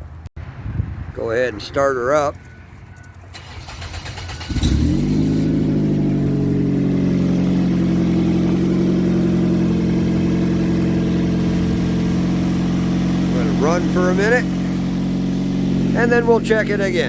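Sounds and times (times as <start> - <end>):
car engine starting and idling: 3.1 - 17.0.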